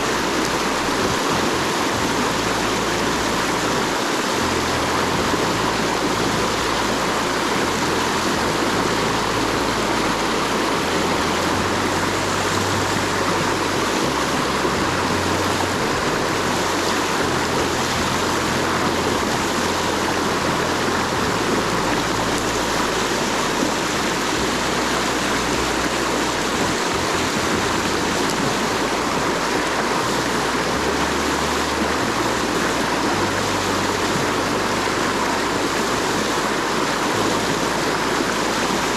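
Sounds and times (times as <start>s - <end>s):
water roaring over dam: 0.0s - 38.9s.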